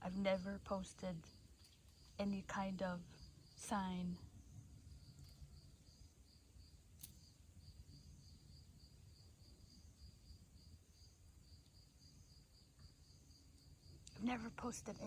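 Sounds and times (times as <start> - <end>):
faint insect chirping: 0.0 - 15.0.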